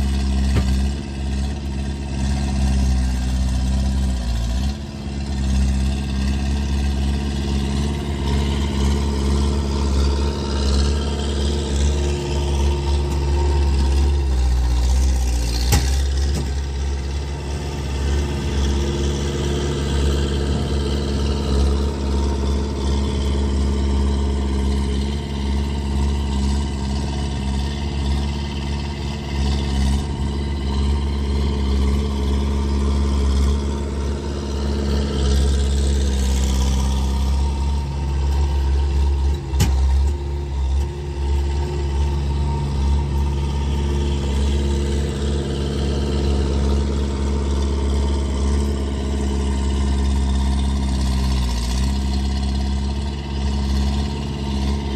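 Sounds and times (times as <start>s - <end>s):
skid steer engine running loudly: 0.0s - 54.9s.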